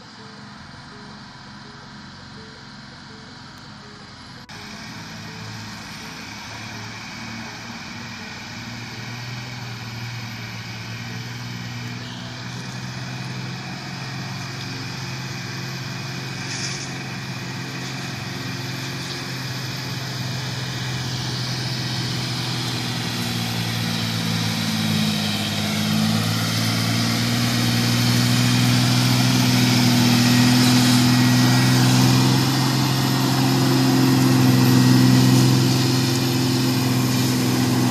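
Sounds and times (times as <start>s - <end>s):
truck diesel engine under load: 0.0s - 37.9s.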